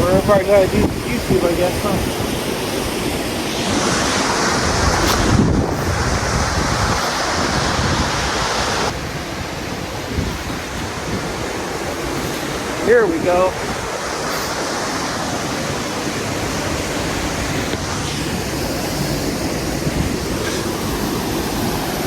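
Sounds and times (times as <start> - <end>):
waterfall rushing: 0.0 - 22.0
wind buffeting microphone: 0.0 - 22.0.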